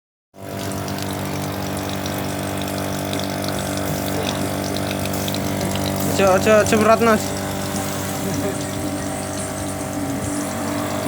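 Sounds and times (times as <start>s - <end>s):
compressor motor humming: 0.4s - 11.0s
air hissing: 1.3s - 11.0s.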